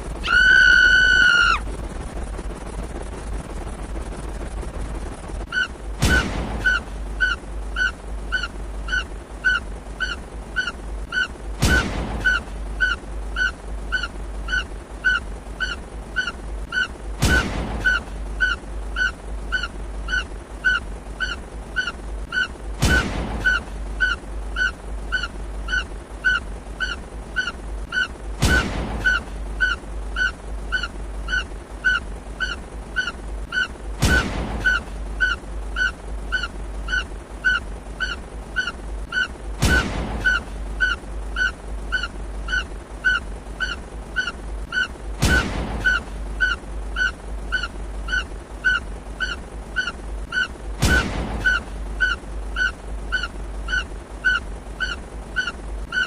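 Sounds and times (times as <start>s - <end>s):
constant deep rumble: 0.0s - 56.0s.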